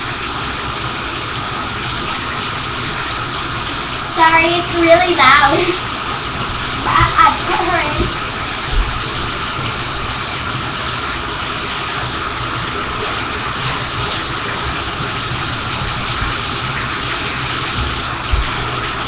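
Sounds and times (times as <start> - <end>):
water gushing into bathtub: 0.0 - 19.0.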